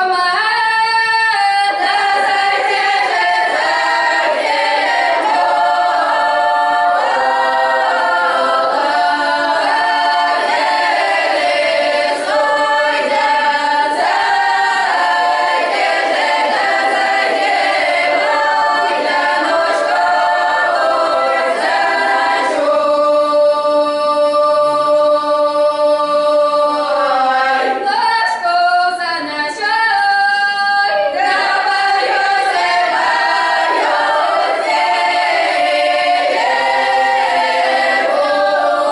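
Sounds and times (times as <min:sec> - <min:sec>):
children singing a cappella: 0:00.0 - 0:38.9.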